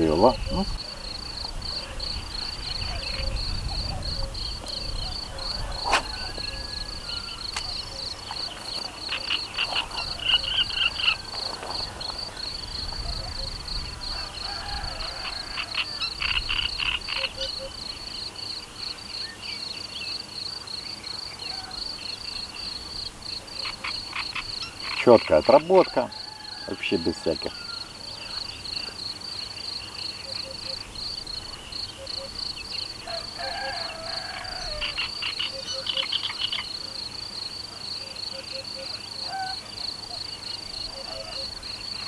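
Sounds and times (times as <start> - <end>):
frog rattling croak: 0.0 - 19.0, 23.3 - 42.0
insects chirping: 0.0 - 42.0.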